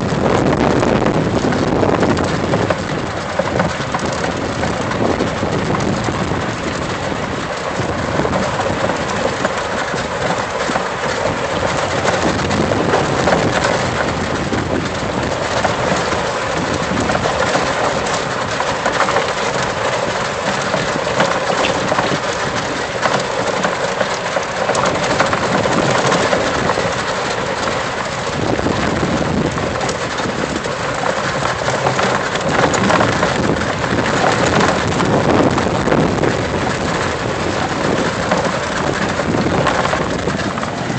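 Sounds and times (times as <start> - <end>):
tyres on dirt trail: 0.0 - 40.9.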